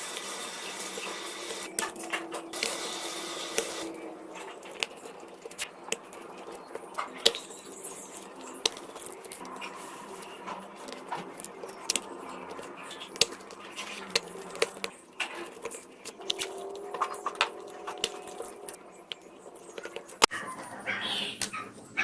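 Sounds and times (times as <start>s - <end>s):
small tools clicking and tapping: 1.6s - 2.9s, 3.5s - 20.3s.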